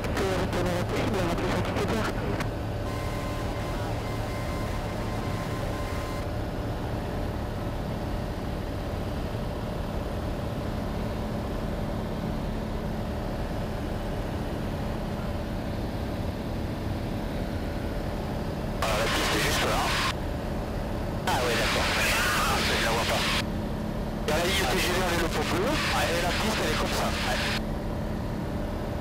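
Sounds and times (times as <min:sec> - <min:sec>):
propeller plane engine droning: 0:00.0 - 0:29.0.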